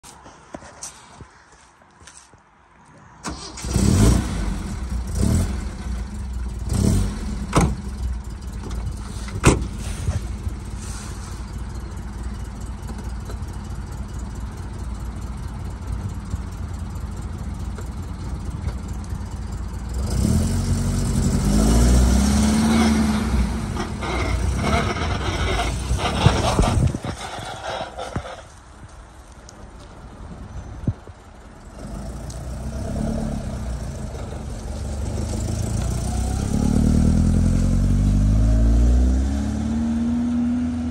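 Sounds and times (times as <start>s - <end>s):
car engine starting and idling: 3.2s - 30.0s, 31.0s - 39.9s.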